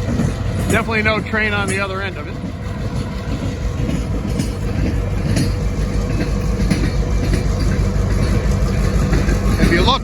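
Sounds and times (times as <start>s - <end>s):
diesel locomotive engine drone: 0.0s - 10.0s
train wheels clicking on rail joints: 0.0s - 10.0s.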